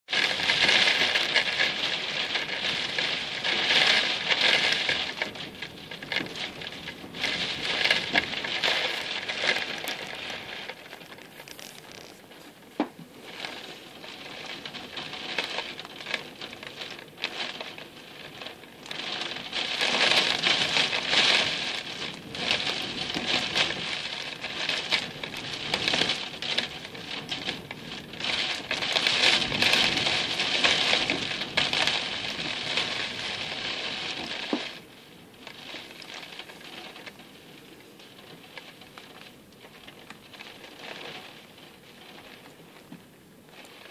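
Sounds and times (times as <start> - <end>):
wind-blown rain pattering: 0.1 - 43.9.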